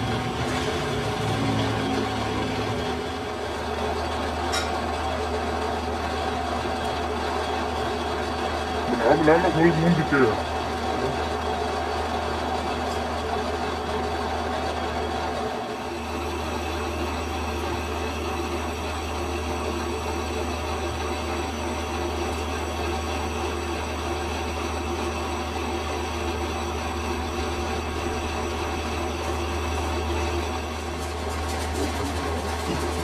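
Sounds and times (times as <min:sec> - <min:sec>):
metal lathe running: 0:00.0 - 0:33.0.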